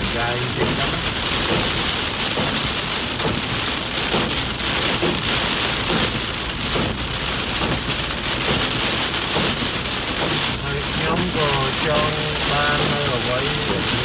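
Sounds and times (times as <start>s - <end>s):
heavy rain on car roof: 0.0s - 14.0s.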